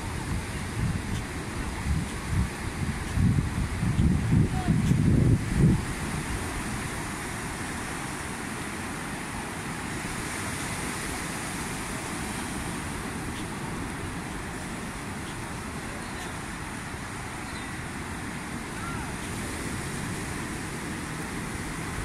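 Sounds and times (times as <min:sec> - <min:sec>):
surf breaking on beach: 0:00.0 - 0:22.0
wind rumbling on microphone: 0:00.0 - 0:22.0.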